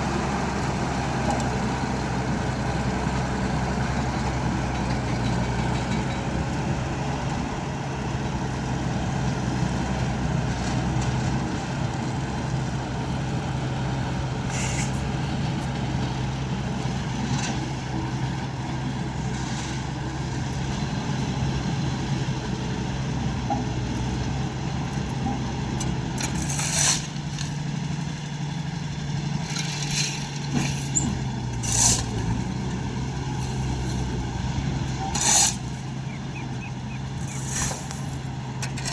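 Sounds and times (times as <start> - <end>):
road roller engine running: 0.0 - 38.9.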